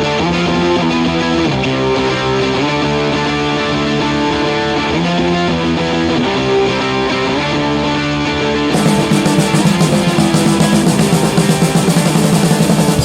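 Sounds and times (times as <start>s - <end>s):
electric guitar rock chords: 0.0s - 13.0s.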